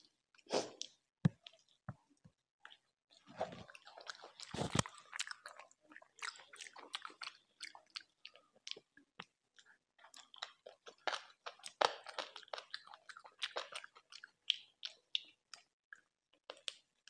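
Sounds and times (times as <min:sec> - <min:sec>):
close chewing with mouth clicks: 0:00.6 - 0:01.8, 0:02.6 - 0:17.0.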